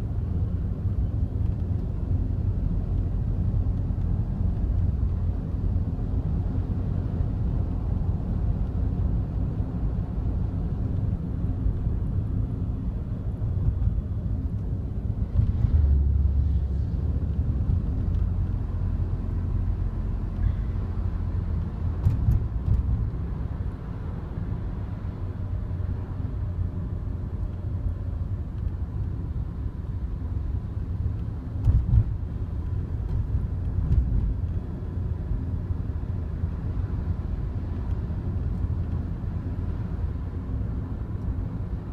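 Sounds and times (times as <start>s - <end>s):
car road and engine rumble: 0.0s - 41.9s.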